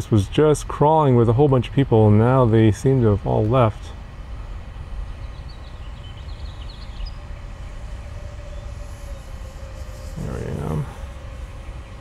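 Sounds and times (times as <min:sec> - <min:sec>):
drone propellers humming: 0:00.0 - 0:12.0
wind rumbling on microphone: 0:00.0 - 0:12.0.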